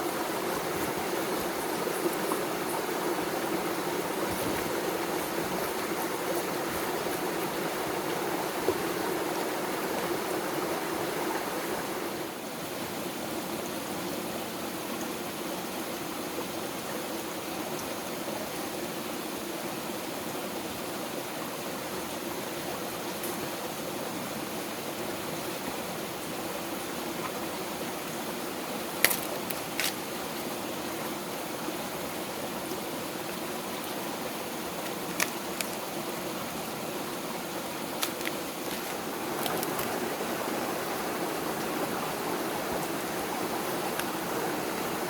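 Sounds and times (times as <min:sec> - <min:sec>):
stream running: 0:00.0 - 0:45.0.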